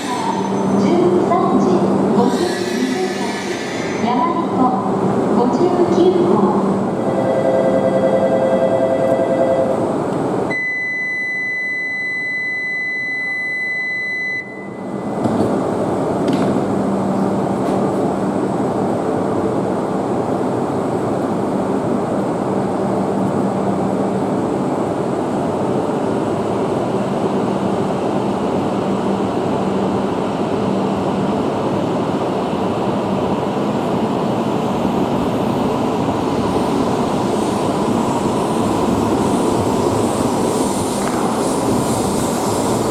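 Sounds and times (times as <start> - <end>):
high-speed train rushing past: 0.0 - 10.5, 14.7 - 42.9.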